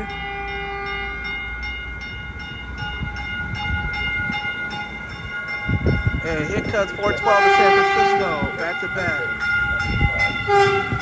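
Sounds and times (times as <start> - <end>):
steady held tones: 0.0 - 11.0
train low rumble: 0.0 - 11.0.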